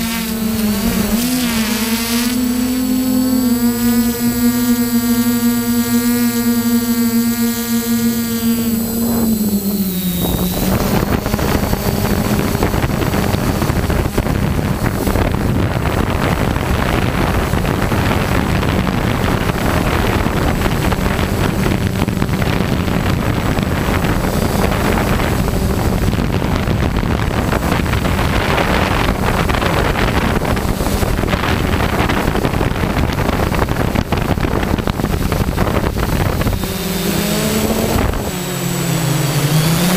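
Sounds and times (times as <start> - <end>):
drone motors whining: 0.0 - 39.9
propeller wash and wind rushing: 0.0 - 39.9.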